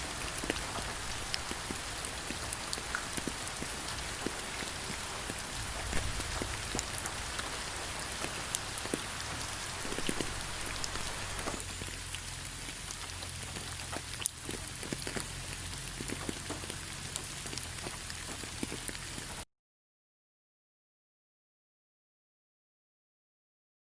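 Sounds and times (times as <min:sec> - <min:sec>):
raindrops ticking: 0:00.0 - 0:19.4
steady rain falling: 0:00.0 - 0:19.5.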